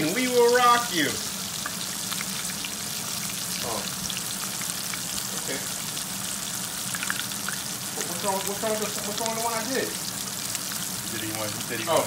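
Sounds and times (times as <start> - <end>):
deep-frying in hot oil: 0.0 - 12.0
oil crackling and popping: 0.0 - 12.0.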